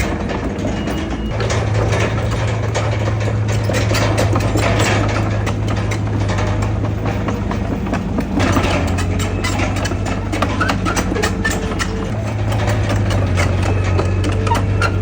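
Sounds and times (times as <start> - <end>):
heavy diesel engine running: 0.0 - 15.0
rapid metallic clicking and clanking: 0.0 - 15.0.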